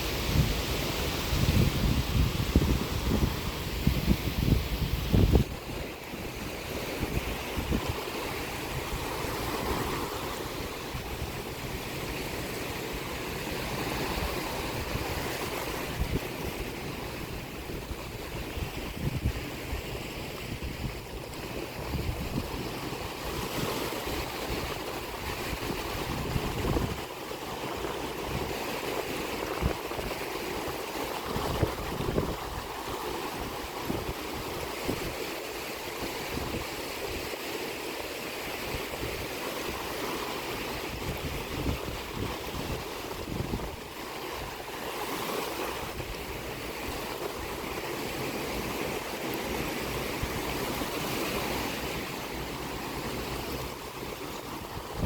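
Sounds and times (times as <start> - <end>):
wind buffeting microphone: 0.0 - 35.3, 38.5 - 55.0
sea waves washing onto shore: 0.0 - 55.0.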